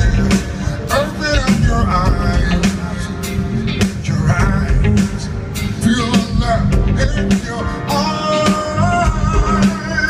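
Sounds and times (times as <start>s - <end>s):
bass line: 0.0s - 10.0s
guitar: 0.0s - 10.0s
man singing: 0.0s - 10.0s.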